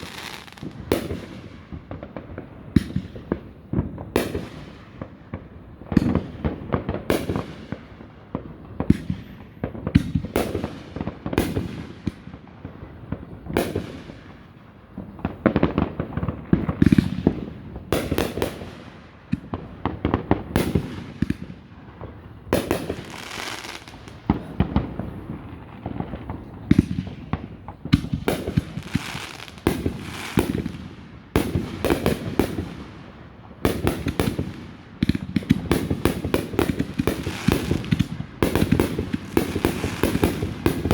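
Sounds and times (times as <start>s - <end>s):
fireworks bursting with bangs: 0.0s - 40.9s.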